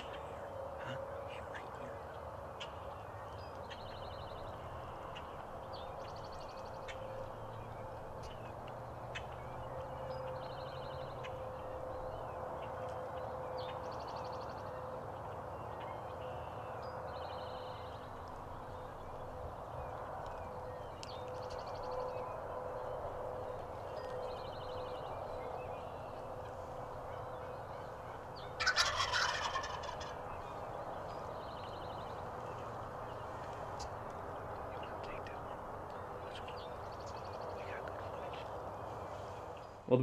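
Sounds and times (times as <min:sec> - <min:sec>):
birds trilling: 0:00.0 - 0:40.0
steady outdoor hiss: 0:00.0 - 0:40.0.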